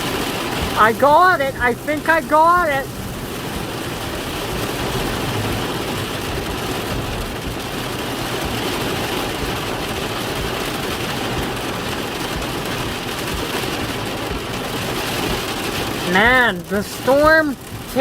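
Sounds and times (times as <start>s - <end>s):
heavy rain on a vehicle: 0.0s - 18.0s.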